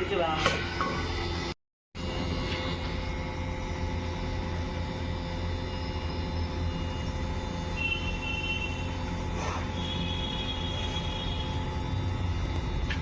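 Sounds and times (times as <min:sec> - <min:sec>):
air conditioning unit humming: 0:00.0 - 0:13.0.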